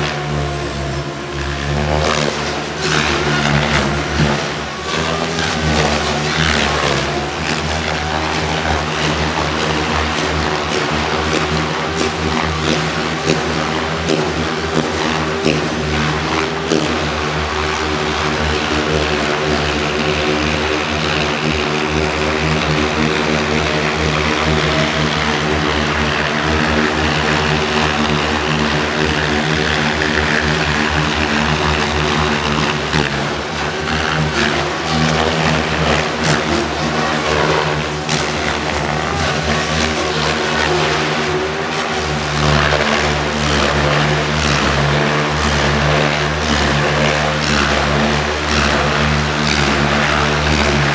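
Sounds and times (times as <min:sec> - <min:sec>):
model helicopter rotor droning: 0:00.0 - 0:50.9.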